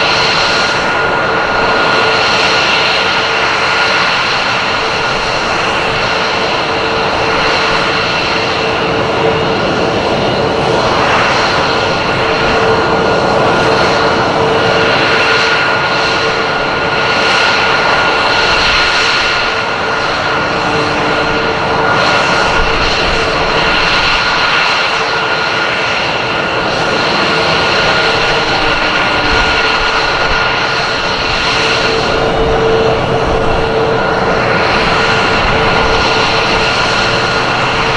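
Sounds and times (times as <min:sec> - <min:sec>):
aircraft engine noise: 0:00.0 - 0:37.9
constant high whine: 0:00.0 - 0:37.9.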